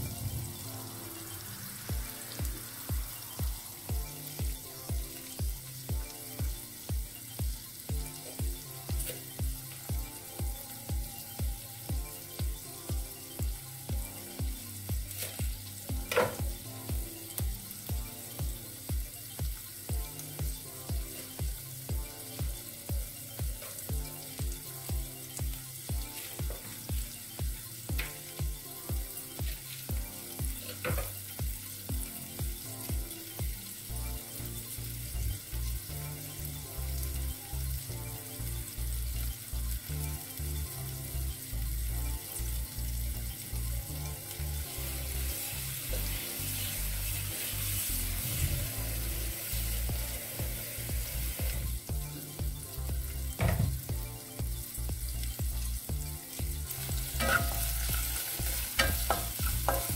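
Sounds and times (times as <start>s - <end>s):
background music with a beat: 0.0s - 59.9s
vegetables sizzling in a frying pan: 0.0s - 59.9s.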